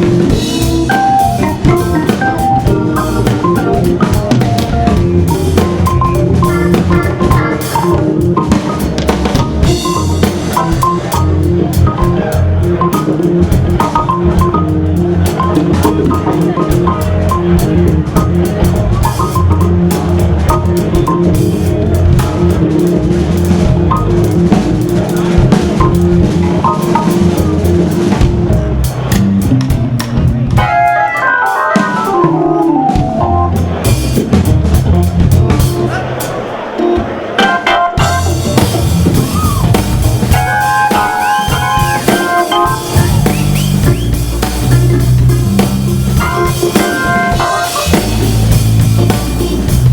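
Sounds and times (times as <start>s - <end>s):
bass: 0.0s - 36.4s, 38.0s - 49.9s
drum kit: 0.0s - 49.9s
hammond organ: 0.0s - 49.9s.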